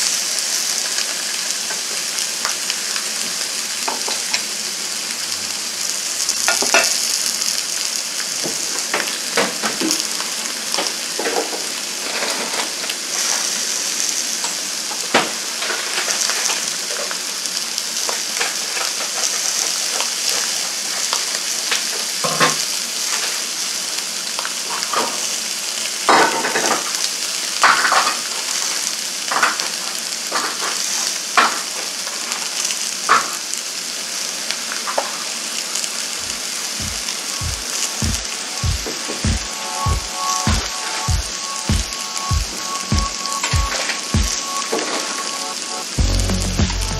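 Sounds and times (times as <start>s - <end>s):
meat sizzling on a grill: 0.0s - 46.9s.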